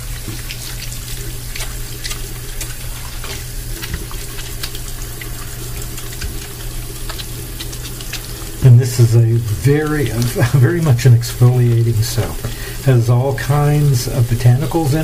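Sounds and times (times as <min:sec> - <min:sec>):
faucet running into sink: 0:00.0 - 0:15.0
steady low hum: 0:00.0 - 0:15.0
wet hands lathering soap: 0:00.0 - 0:15.0.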